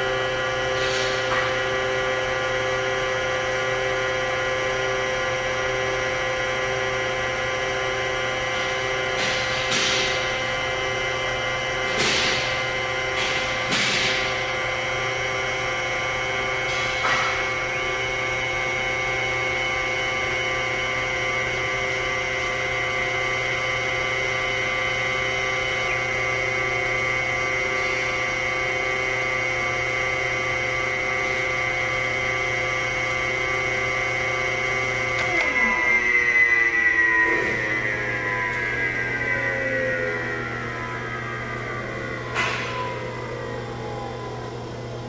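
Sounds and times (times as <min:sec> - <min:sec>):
surface grinder spindle whine: 0:00.0 - 0:45.0.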